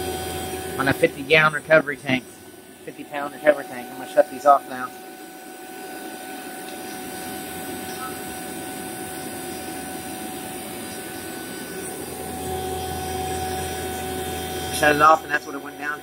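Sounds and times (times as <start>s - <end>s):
vacuum pump humming and whining: 0.0s - 16.0s.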